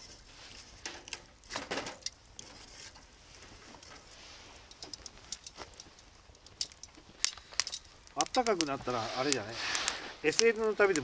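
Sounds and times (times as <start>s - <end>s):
logs shifted with fire tongs: 0.0s - 11.0s
wood fire crackling: 0.0s - 11.0s.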